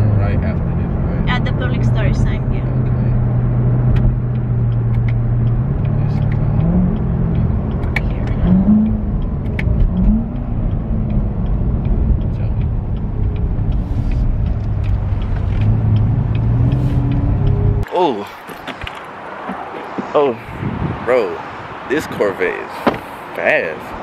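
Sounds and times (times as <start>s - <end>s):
car engine accelerating: 0.0s - 22.6s.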